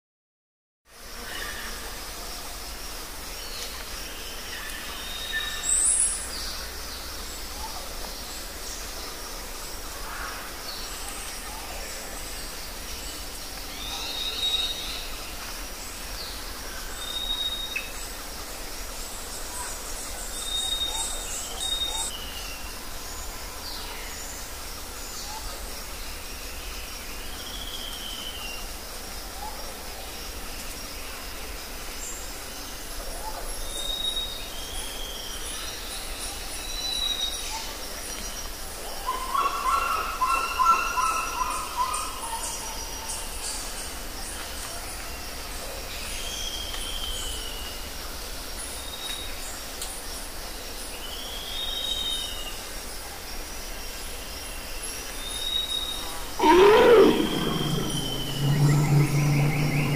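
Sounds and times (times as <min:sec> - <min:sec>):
steady background hiss: 0:00.9 - 0:59.9.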